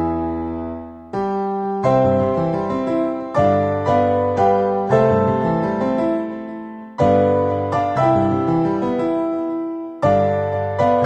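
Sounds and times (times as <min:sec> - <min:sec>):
solo piano chords: 0:00.0 - 0:11.0.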